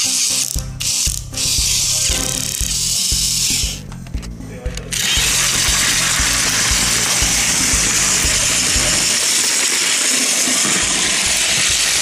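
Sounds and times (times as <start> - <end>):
toy train motor whirring: 0.0 - 3.8, 4.9 - 12.0.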